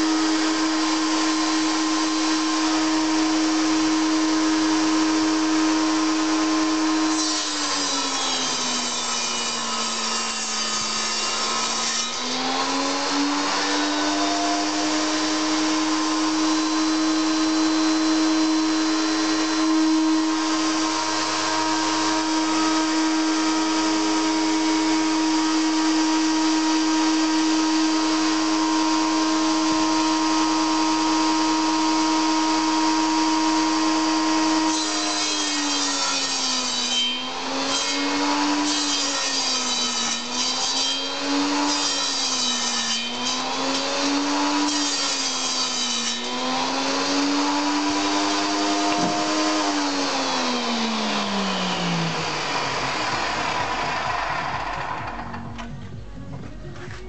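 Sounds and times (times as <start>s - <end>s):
saw blade rasping through wood: 0.0s - 55.5s
table saw whine: 0.0s - 56.3s.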